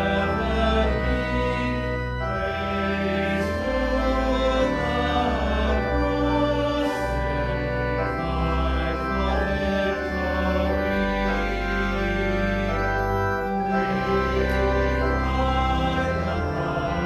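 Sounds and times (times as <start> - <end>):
voices singing: 0.0 - 12.6, 13.5 - 17.0
church organ playing hymn: 0.0 - 17.0.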